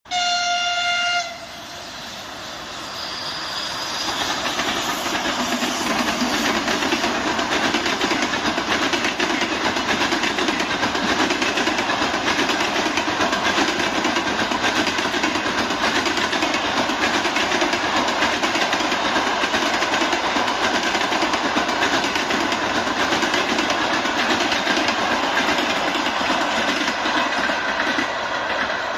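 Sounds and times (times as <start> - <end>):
train wheels rattling on rails: 0.1 - 28.9.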